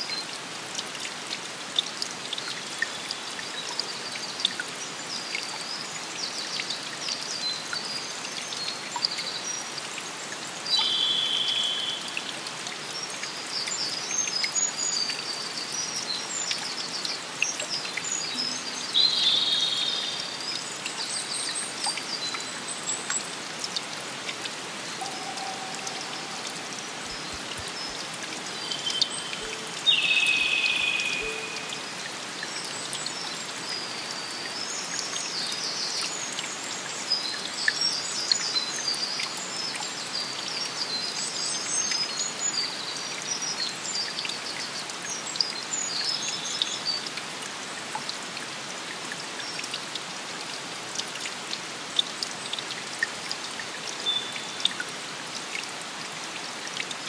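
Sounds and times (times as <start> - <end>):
water dripping and trickling: 0.0 - 57.0.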